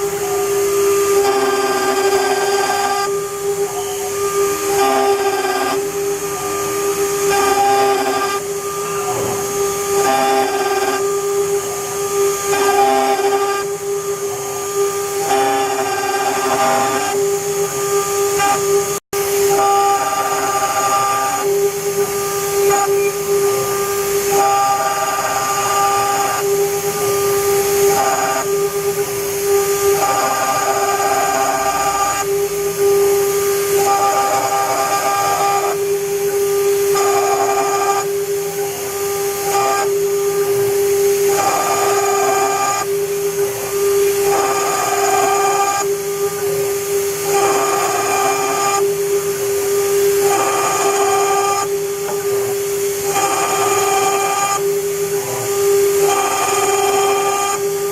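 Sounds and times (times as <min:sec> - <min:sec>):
bit cutting into metal: 0:00.0 - 0:57.9
router spindle whining: 0:00.0 - 0:57.9.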